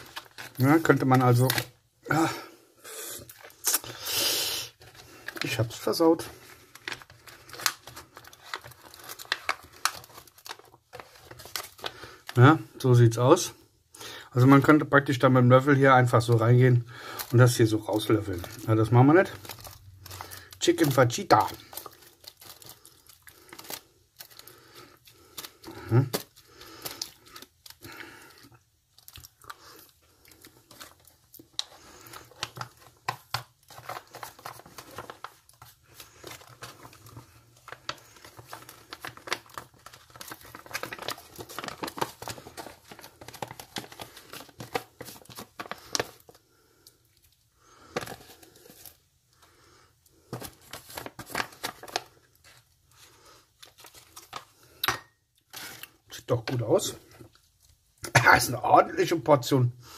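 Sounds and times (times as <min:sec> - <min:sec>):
foil pouch crinkling: 0:00.0 - 0:02.5, 0:03.2 - 0:12.9, 0:16.1 - 0:49.4, 0:50.1 - 0:54.8.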